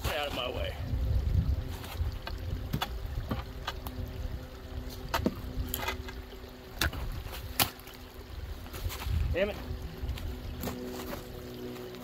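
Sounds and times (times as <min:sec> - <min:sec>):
wind rumble on microphone: 0:00.0 - 0:11.7.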